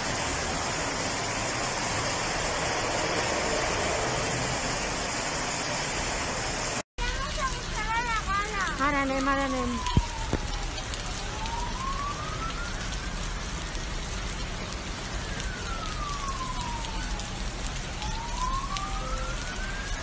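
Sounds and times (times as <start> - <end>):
rain hiss: 0.0 - 20.0
siren wailing: 0.1 - 5.1, 7.8 - 20.0.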